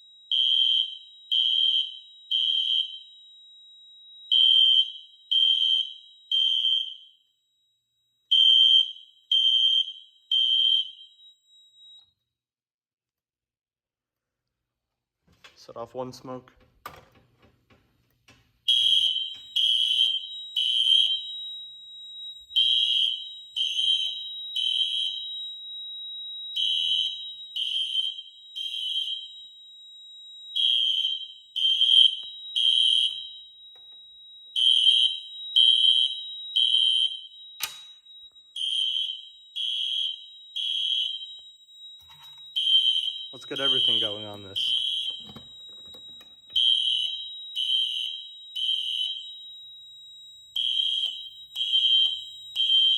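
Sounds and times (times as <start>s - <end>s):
fire alarm horn blasts: 0.0s - 12.1s, 18.7s - 52.9s.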